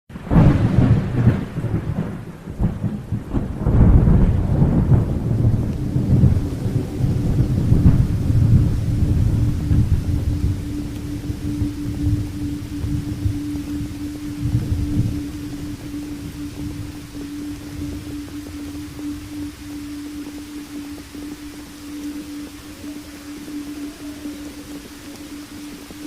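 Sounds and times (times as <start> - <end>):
rain falling: 0.1 - 26.0
thunder rumbling: 0.1 - 26.0
steady low humming tone: 3.8 - 26.0.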